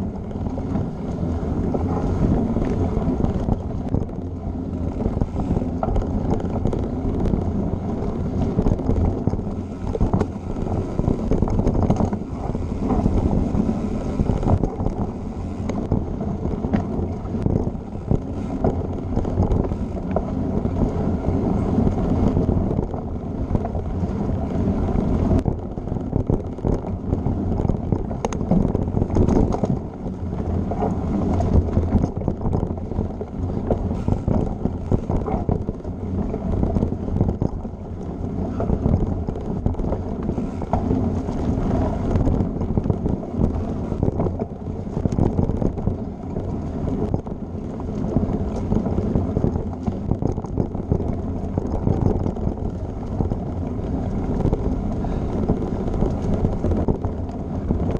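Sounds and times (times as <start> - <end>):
bike rattling and knocking: 0.0 - 57.9
tyres rumbling on dirt: 0.0 - 57.9
wind buffeting microphone: 0.0 - 57.9.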